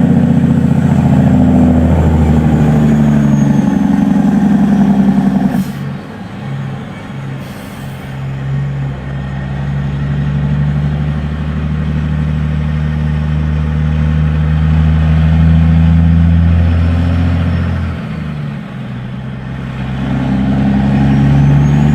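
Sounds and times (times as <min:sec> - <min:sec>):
truck diesel engine running: 0:00.0 - 0:21.9.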